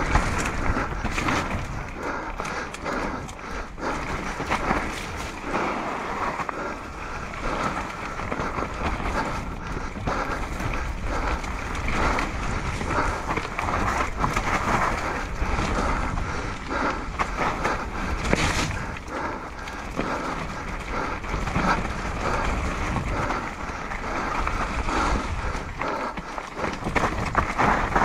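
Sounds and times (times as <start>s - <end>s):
bike knocking and rattling: 0.0s - 28.0s
bike tyres rolling over dirt: 0.0s - 28.0s.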